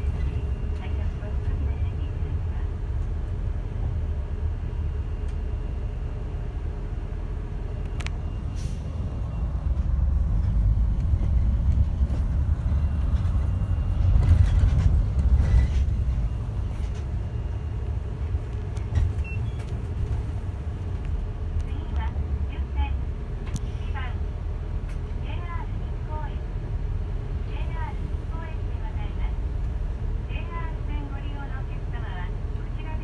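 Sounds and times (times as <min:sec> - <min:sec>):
bus engine rumble: 0:00.0 - 0:33.0.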